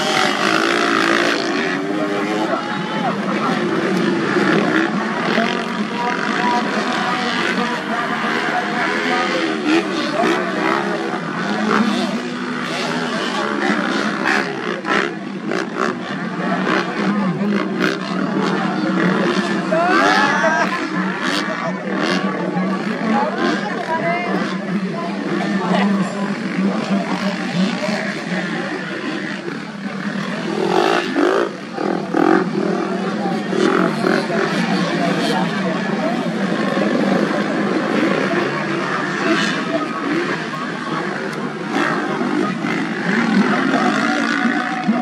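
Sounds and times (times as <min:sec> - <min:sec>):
motocross bike engines revving: 0:00.0 - 0:45.0.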